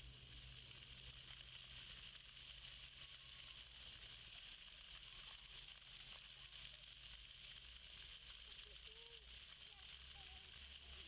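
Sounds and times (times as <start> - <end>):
fountain jets hissing: 1.0 - 11.0.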